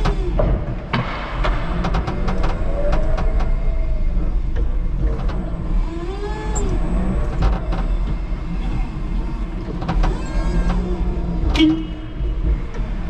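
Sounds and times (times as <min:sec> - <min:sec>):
forklift rumbling: 0:00.0 - 0:13.0.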